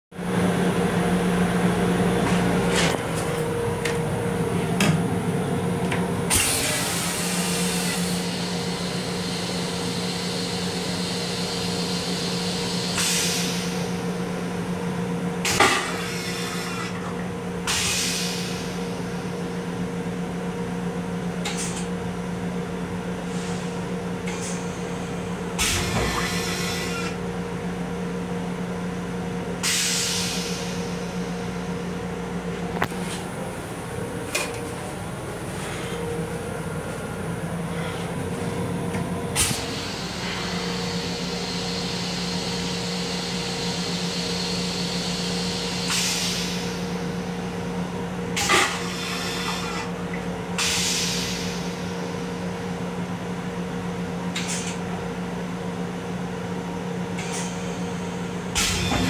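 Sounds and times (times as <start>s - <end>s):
electric railcar hum: 0.2s - 59.0s.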